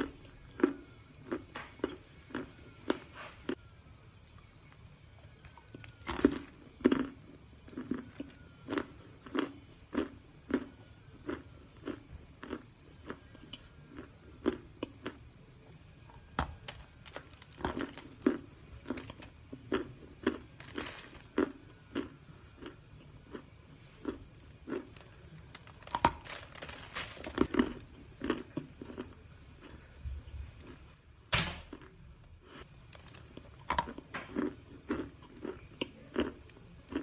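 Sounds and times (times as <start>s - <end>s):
crunchy clay being chewed: 0.0s - 3.6s, 4.2s - 30.9s, 31.7s - 37.0s.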